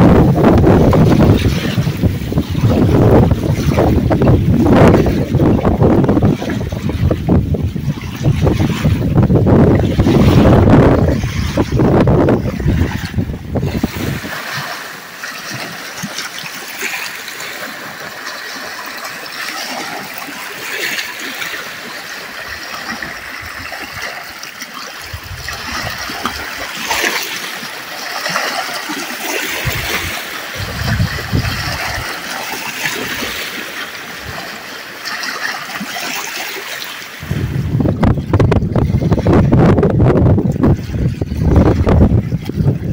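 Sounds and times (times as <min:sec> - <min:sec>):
water splashing and trickling: 0:00.0 - 0:42.9.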